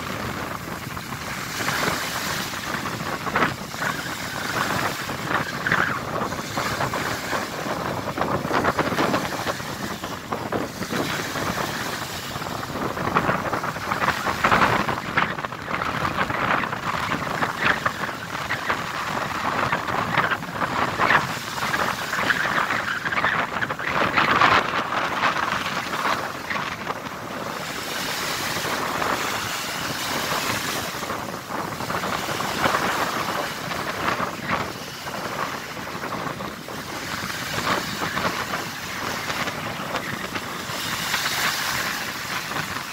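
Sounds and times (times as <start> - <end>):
sea splashing and rushing: 0.0 - 42.9
wind gusts on microphone: 0.0 - 42.9.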